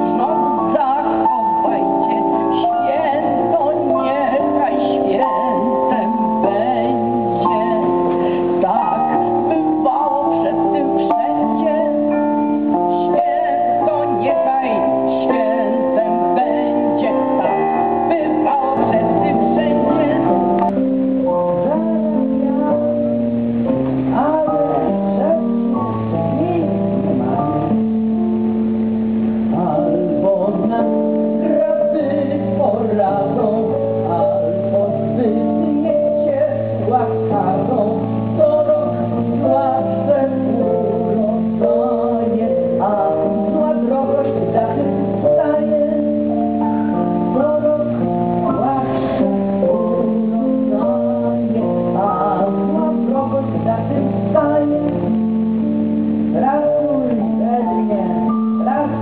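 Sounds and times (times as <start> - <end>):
keyboard chords: 0.0 - 59.0
woman singing: 0.0 - 59.0.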